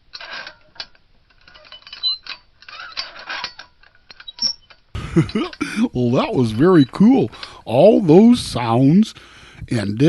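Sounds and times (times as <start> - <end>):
playground swing creaking: 0.0 - 8.3.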